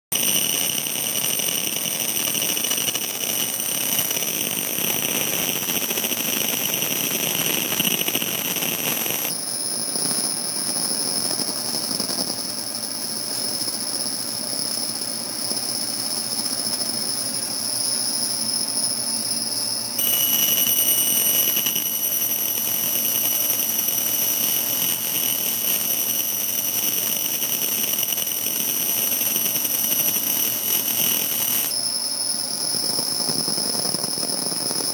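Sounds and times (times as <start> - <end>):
laser engraving machine running: 0.2 - 34.9.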